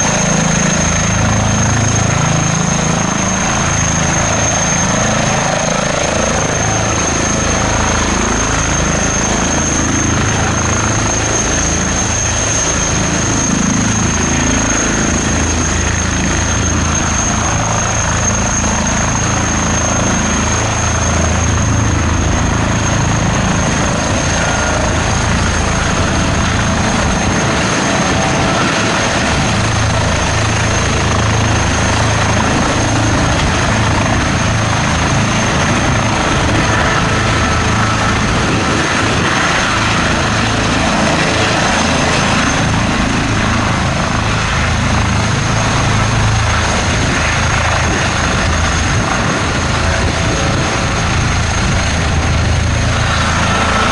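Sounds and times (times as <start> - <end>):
helicopter rotor beat: 0.0 - 53.9
high engine whine: 0.0 - 53.9.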